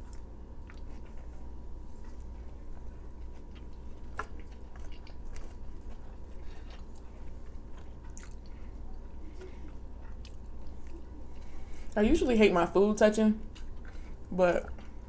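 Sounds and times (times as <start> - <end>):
close-up chewing: 0.0 - 12.1, 13.4 - 15.0
low steady hum: 0.0 - 15.0.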